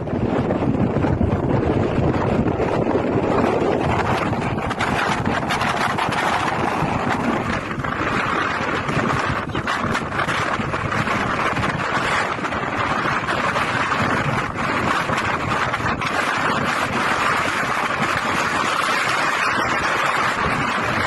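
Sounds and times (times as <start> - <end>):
strong wind on microphone: 0.0 - 21.0.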